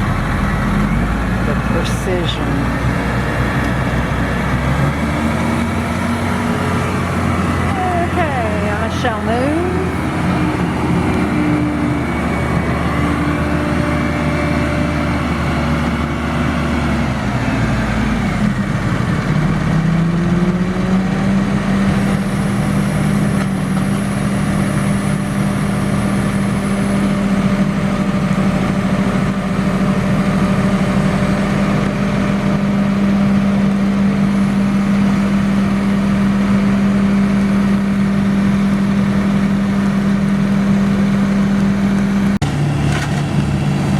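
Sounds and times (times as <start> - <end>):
heavy equipment engine running: 0.0 - 43.9.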